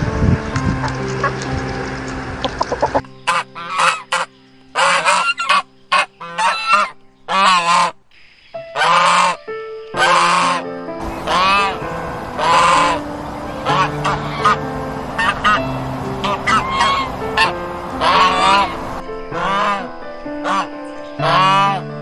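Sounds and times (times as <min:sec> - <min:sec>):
background music with held tones: 0:00.0 - 0:22.0
bird harsh calls: 0:02.8 - 0:09.4, 0:10.0 - 0:21.8.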